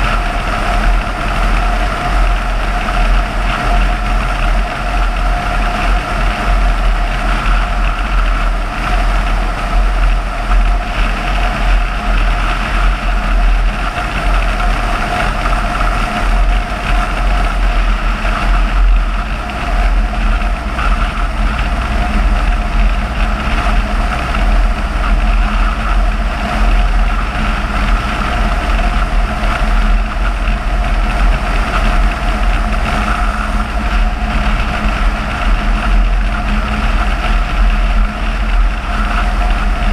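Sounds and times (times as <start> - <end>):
car driving at road speed: 0.0 - 39.9.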